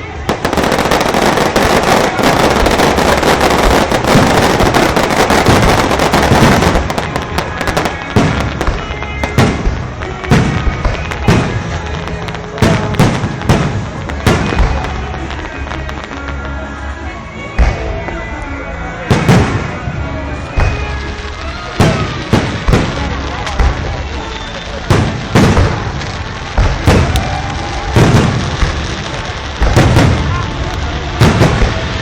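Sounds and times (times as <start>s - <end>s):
fireworks bangs and crackling: 0.0s - 32.0s
echoing firework booms: 0.2s - 15.0s, 19.1s - 21.0s, 21.8s - 24.1s, 24.7s - 32.0s.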